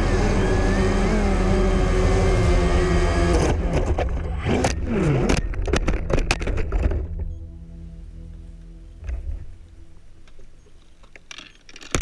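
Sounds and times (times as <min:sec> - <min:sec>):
engine running: 0:00.0 - 0:11.1.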